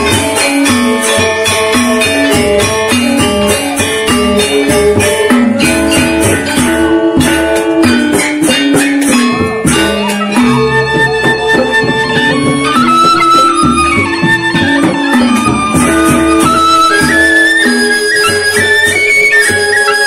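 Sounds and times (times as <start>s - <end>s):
hand drum: 0.0s - 20.0s
metallophones struck with mallets: 0.0s - 20.0s.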